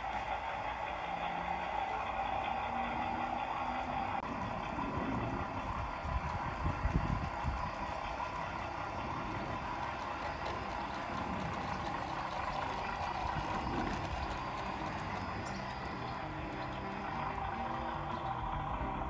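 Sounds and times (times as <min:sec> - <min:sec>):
model train running on track: 0:00.0 - 0:19.0.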